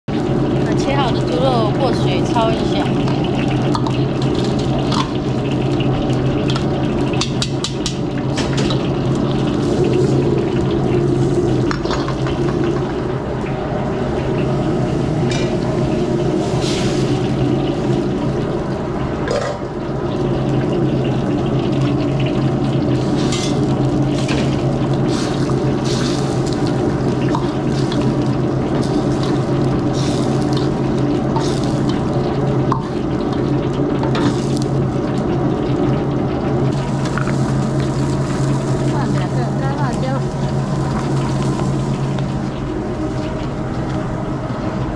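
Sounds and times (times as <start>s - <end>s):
gas burner and exhaust rushing: 0.1s - 44.9s.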